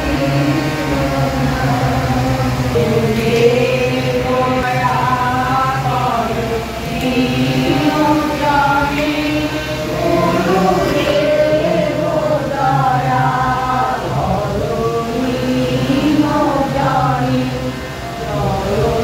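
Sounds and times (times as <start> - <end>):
women chanting together: 0.0 - 19.0.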